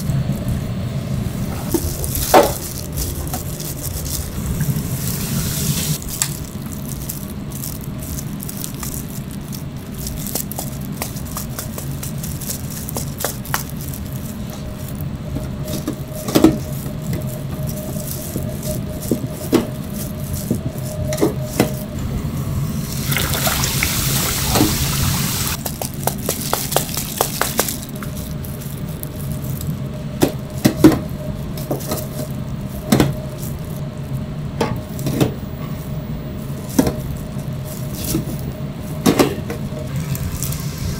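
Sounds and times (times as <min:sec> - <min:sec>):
kitchen hum: 0:00.0 - 0:40.9
hands rustling breadcrumbs: 0:01.1 - 0:22.0, 0:22.8 - 0:40.9.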